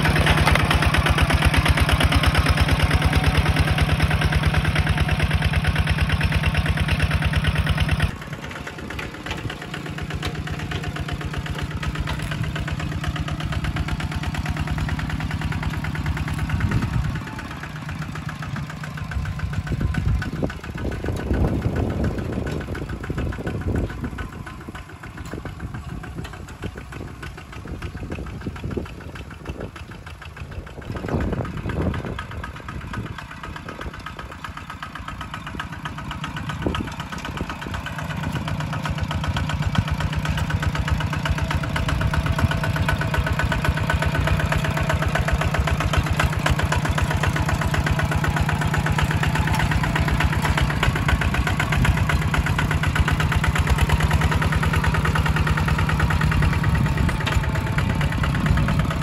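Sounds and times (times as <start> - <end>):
diesel engine chugging: 0.0 - 59.0
rotary tiller in wet soil: 0.0 - 59.0.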